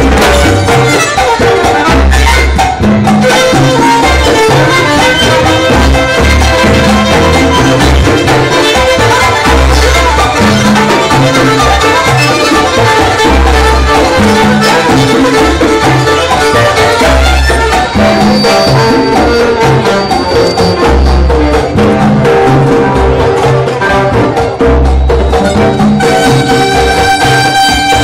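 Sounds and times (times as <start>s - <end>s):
latin jazz band playing: 0.0s - 28.0s.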